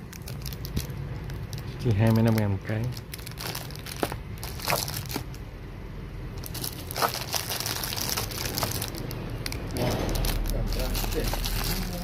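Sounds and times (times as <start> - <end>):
cellophane crinkling: 0.0 - 5.4, 6.4 - 12.0.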